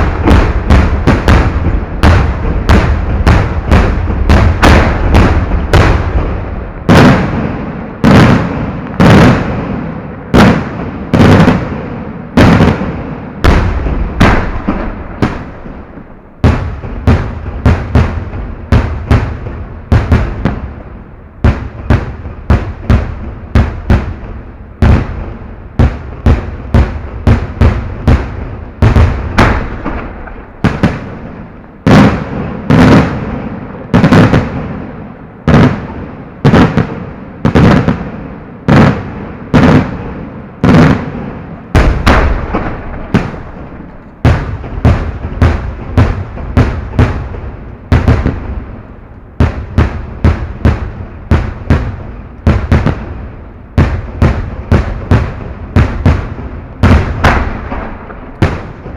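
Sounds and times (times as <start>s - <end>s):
firework bangs: 0.0s - 58.9s
heavy echoing firework booms: 0.0s - 58.9s.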